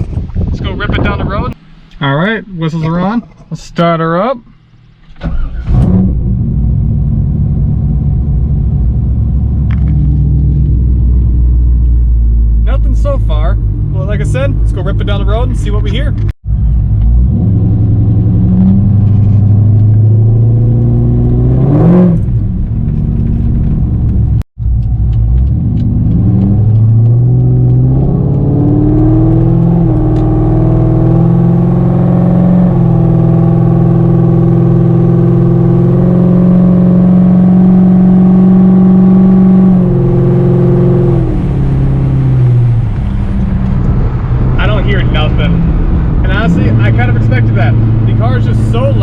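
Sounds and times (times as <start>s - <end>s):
car engine exhaust revving: 5.7s - 49.0s.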